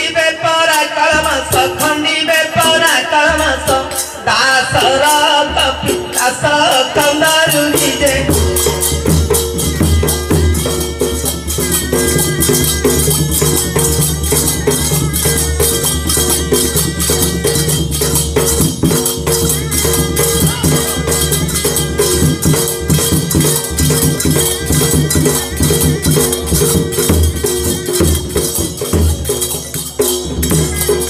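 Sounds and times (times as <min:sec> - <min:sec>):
barrel drum beating: 0:04.8 - 0:31.0.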